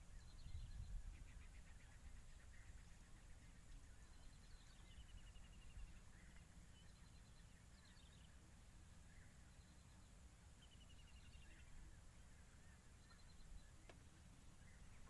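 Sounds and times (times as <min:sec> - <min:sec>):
faint bird calls: 0:00.0 - 0:15.0
low background rumble: 0:00.0 - 0:15.0.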